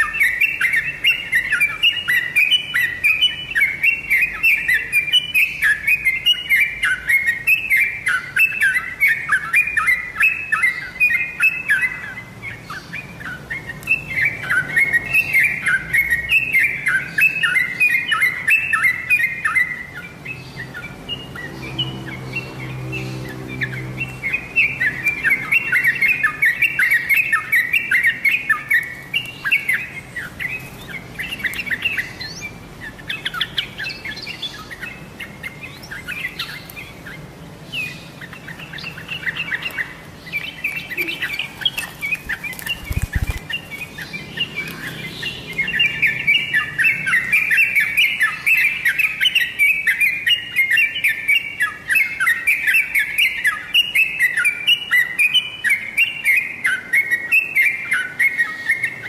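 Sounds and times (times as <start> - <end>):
bulbul singing chattering notes: 0.0 - 55.9.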